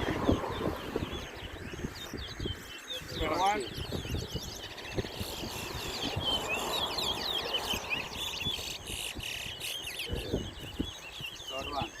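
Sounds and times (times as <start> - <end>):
bird twittering chirps: 0.0 - 12.0.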